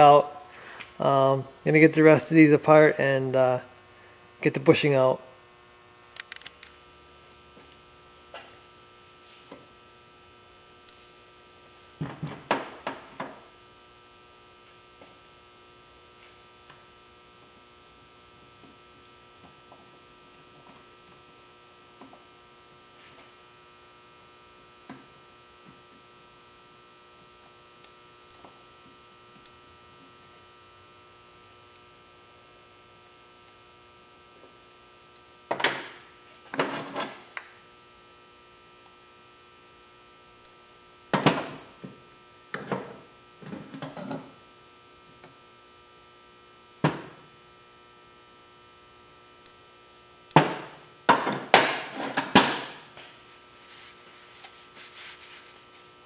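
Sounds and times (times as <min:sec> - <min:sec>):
mains hum: 0:00.0 - 0:56.0.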